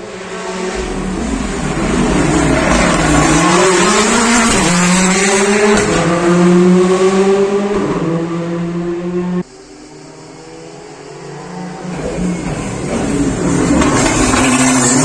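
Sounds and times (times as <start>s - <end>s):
rally car engine accelerating: 0.1s - 15.0s.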